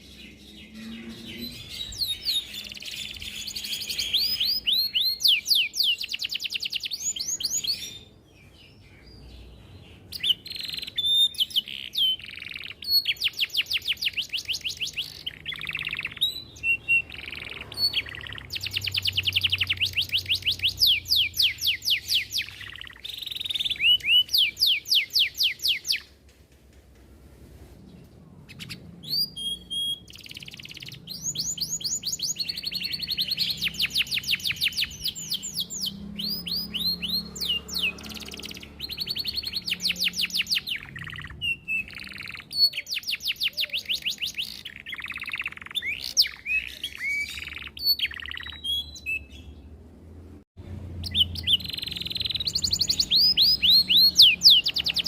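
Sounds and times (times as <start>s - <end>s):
canary singing trills: 0.0s - 26.2s, 28.4s - 49.9s, 50.8s - 55.0s.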